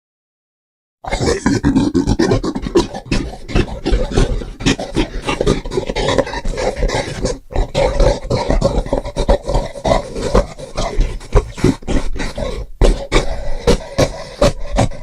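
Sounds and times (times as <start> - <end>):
person grunting and growling: 1.0 - 15.0.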